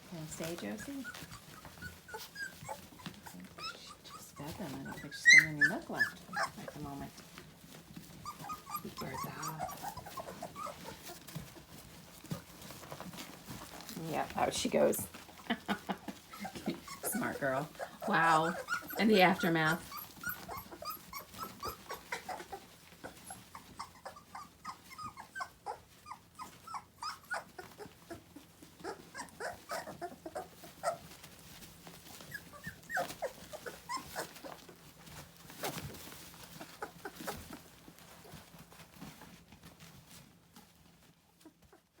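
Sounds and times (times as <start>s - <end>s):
puppies whimpering and squeaking: 0.0s - 42.0s.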